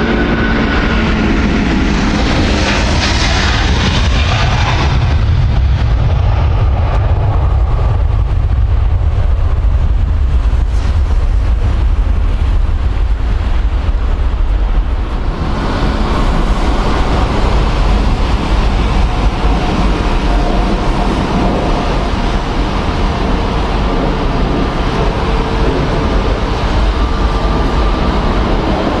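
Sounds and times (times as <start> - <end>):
jet engines roaring at take-off: 0.0 - 29.0
jet engines running while taxiing: 0.0 - 29.0.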